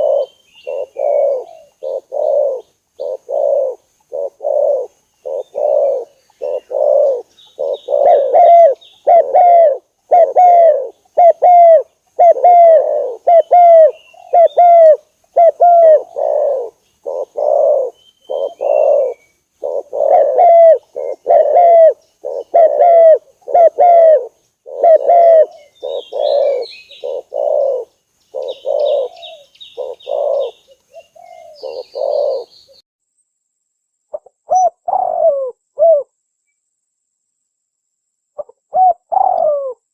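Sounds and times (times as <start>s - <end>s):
dove cooing: 0.0s - 32.8s, 34.1s - 36.1s, 38.4s - 39.9s.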